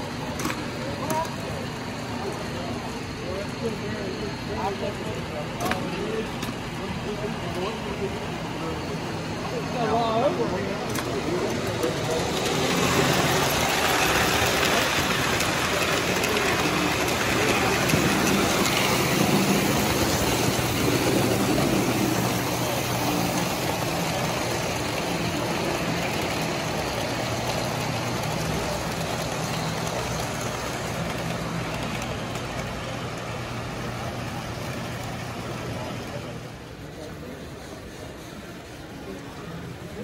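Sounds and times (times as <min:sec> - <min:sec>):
model train wheels and motors rumbling: 0:00.0 - 0:40.0.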